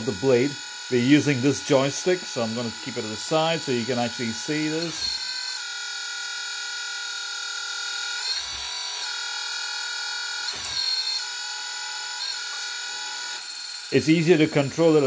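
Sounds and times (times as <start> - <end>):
electric hydraulic pump whining: 0.0 - 15.0.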